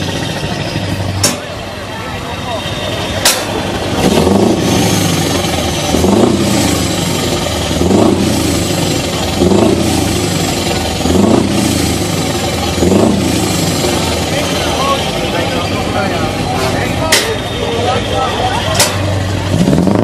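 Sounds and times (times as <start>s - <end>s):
truck diesel engine revving: 0.0s - 20.0s.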